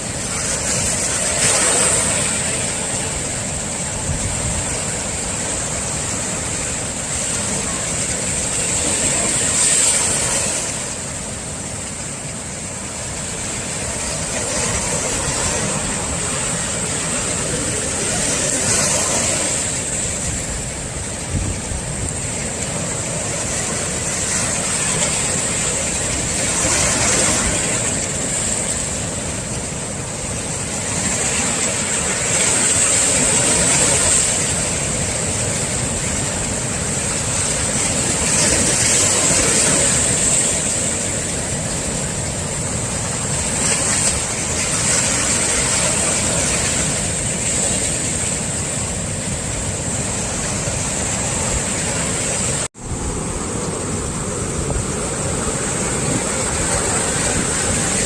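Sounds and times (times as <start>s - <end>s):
surf breaking on shore: 0.0s - 58.0s.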